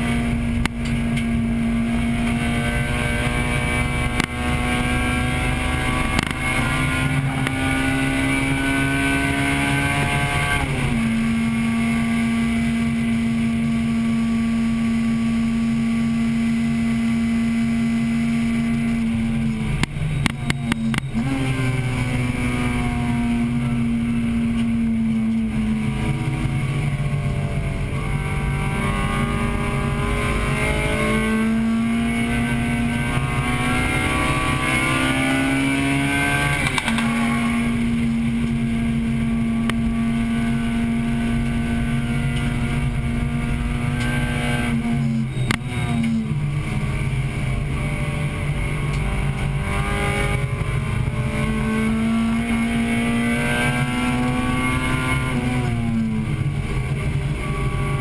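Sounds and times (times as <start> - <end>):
car engine revving from inside: 0.0 - 58.0.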